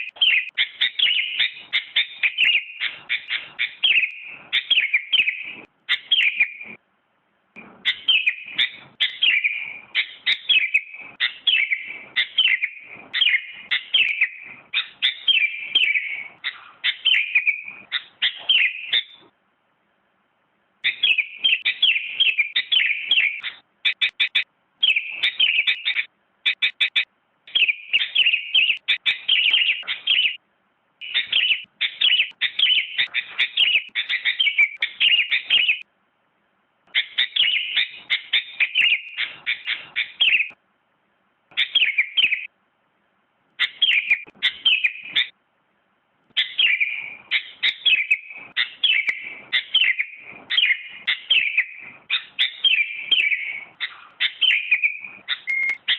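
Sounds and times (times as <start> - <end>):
bird chirping: 0.0 - 6.8, 7.6 - 19.4, 20.8 - 30.4, 31.0 - 35.9, 36.9 - 40.6, 41.5 - 42.6, 43.6 - 45.4, 46.3 - 55.9.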